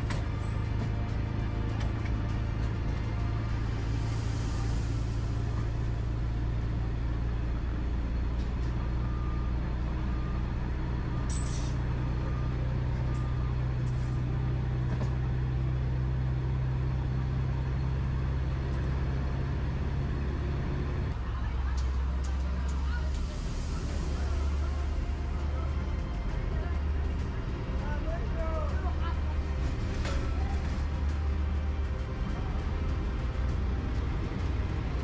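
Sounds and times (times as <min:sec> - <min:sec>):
train low drone: 0:00.0 - 0:35.0.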